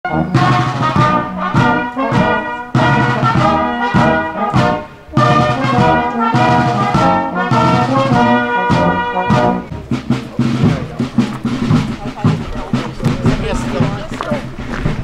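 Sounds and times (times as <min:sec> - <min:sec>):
brass band music: 0:00.1 - 0:15.0.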